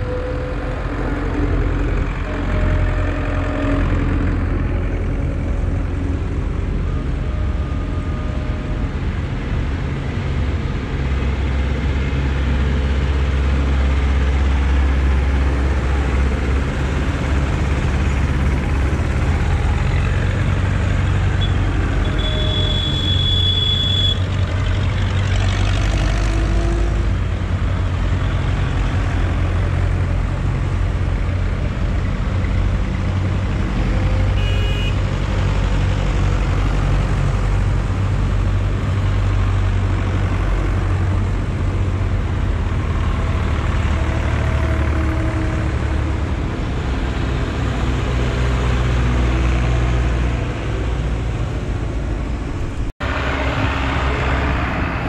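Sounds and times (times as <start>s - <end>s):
tractor diesel engines: 0.0s - 55.0s.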